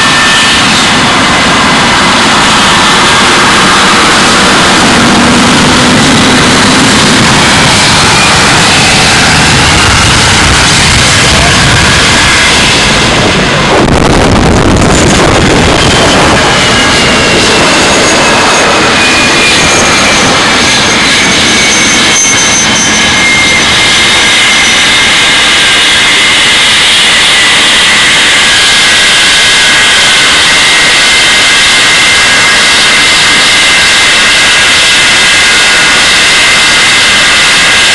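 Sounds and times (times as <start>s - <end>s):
high jet whine: 0.0s - 37.9s
jet engines roaring: 0.0s - 37.9s.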